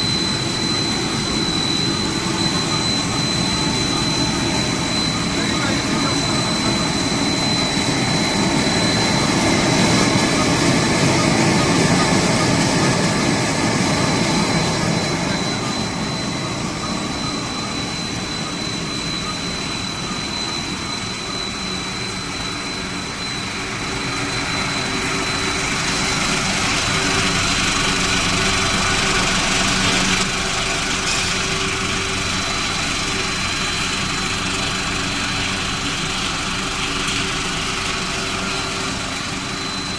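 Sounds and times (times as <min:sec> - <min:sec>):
high-pitched machine whine: 0:00.0 - 0:39.9
machinery whir and hum: 0:00.0 - 0:39.9.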